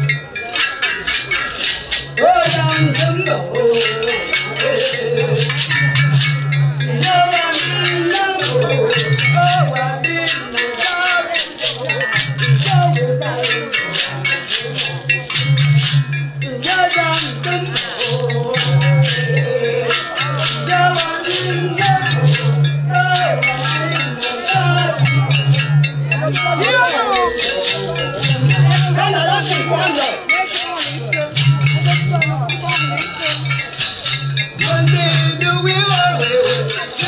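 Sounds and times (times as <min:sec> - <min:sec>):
dense rhythmic rattles: 0:00.0 - 0:37.0
low drone of clay pot instruments: 0:00.0 - 0:37.0
wavering voices: 0:00.0 - 0:37.0.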